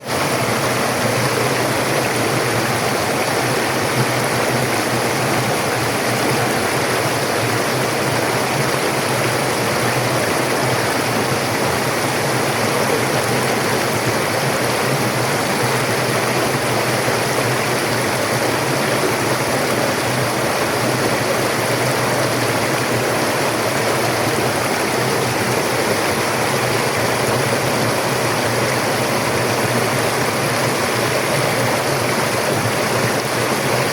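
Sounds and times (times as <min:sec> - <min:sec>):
stream flowing over rocks: 0:00.0 - 0:33.9.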